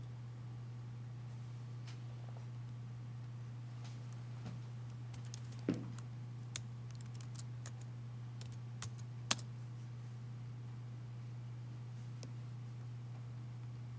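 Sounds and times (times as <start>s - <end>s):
low electrical hum: 0.0s - 13.9s.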